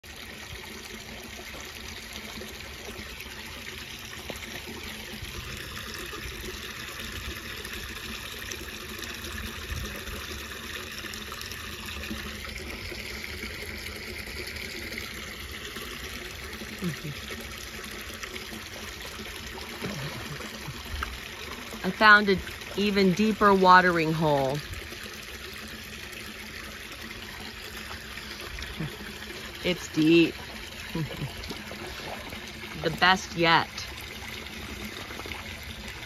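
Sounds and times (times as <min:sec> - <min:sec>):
creek water trickling and splashing: 0:00.0 - 0:36.0
dogs wading through water: 0:00.0 - 0:36.0.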